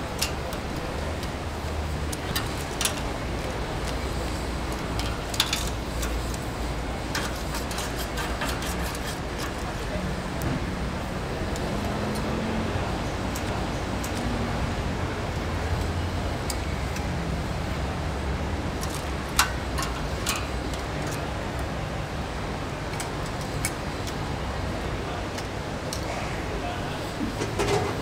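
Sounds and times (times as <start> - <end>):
low traffic rumble: 0.0 - 28.0
street market background noise: 0.0 - 28.0.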